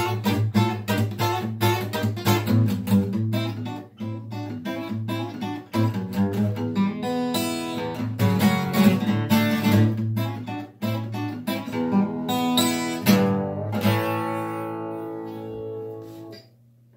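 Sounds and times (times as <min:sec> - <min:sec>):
acoustic guitar picking: 0:00.0 - 0:16.5.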